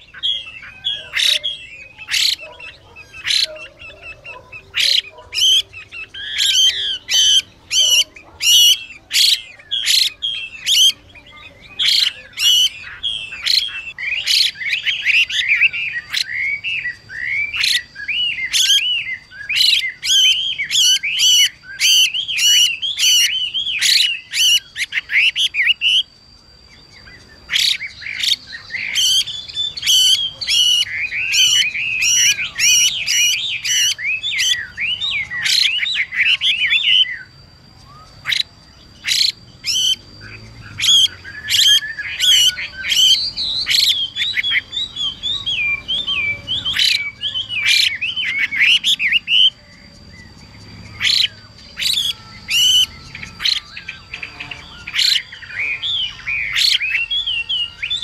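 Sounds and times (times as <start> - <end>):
songbird calling and warbling: 0.0 - 58.0.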